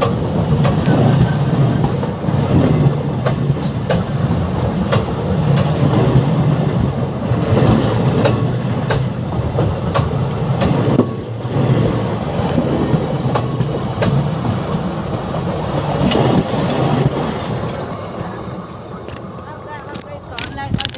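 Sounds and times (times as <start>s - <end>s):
wheels clicking over rail joints: 0.0s - 6.3s, 7.4s - 11.8s, 12.4s - 17.9s, 19.0s - 20.9s
train rumbling on track: 0.0s - 20.9s.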